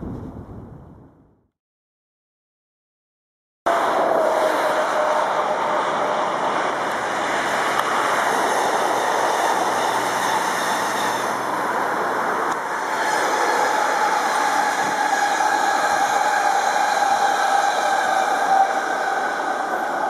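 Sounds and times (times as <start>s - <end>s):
train wheels and air rushing: 3.7s - 20.0s.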